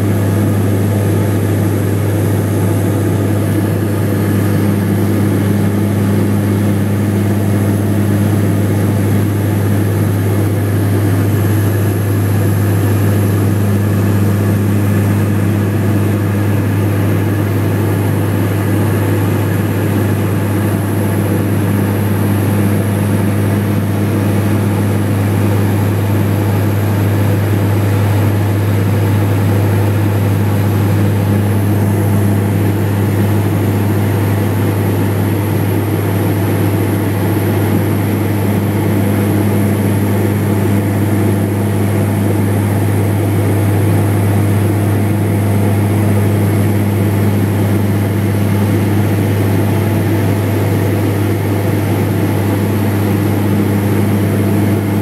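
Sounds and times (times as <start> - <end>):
propeller aircraft engine hum: 0.0 - 55.0.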